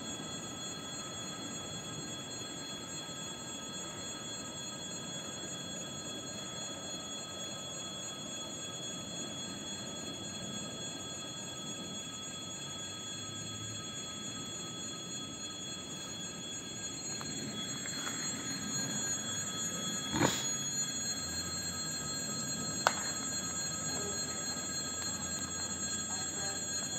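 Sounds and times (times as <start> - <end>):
level-crossing warning bell: 0.0 - 26.9.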